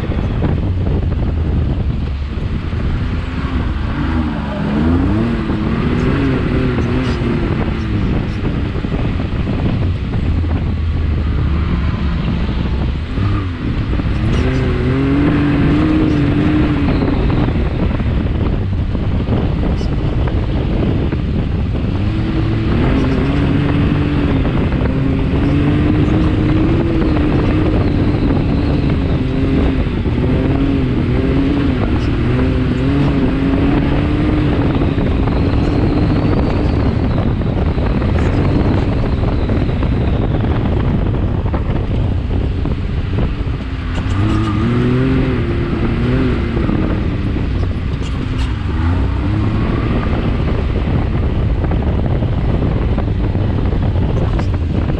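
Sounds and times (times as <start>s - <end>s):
wind rushing: 0.0s - 54.9s.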